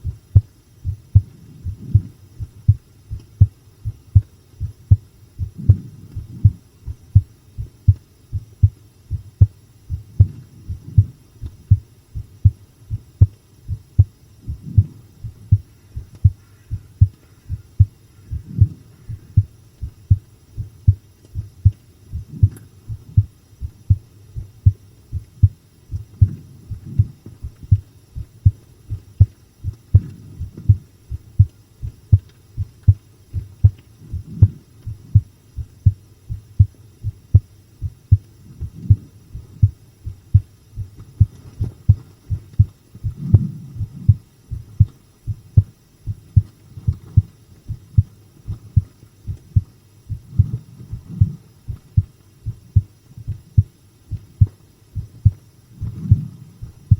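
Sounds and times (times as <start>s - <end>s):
heartbeat thumps: 0.0s - 56.9s.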